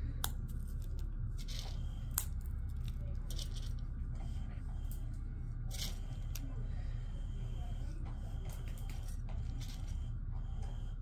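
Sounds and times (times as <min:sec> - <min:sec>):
cats foraging: 0:00.0 - 0:11.0
low room hum: 0:00.0 - 0:11.0.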